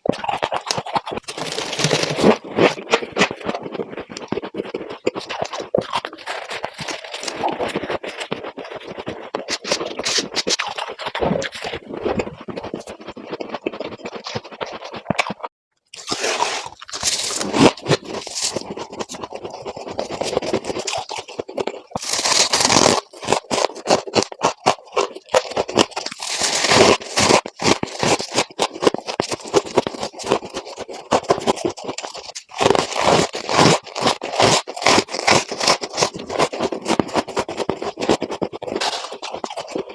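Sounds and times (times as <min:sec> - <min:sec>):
ice crunching when bitten: 0:00.0 - 0:39.9
ice being scraped: 0:00.2 - 0:15.1, 0:16.0 - 0:39.9.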